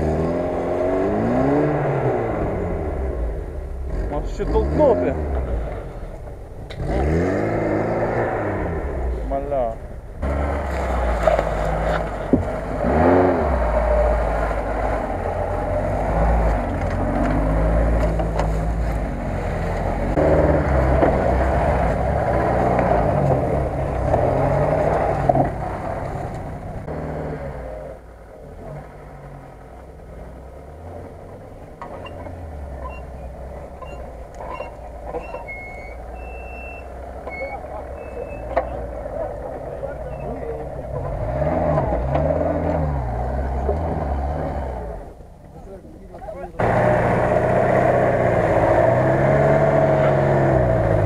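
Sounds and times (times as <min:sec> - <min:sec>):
off-road engine revving: 0:00.0 - 0:51.0.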